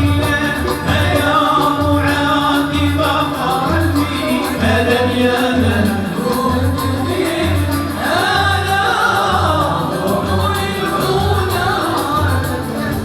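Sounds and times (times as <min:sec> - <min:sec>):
chorus of voices singing: 0:00.0 - 0:13.0.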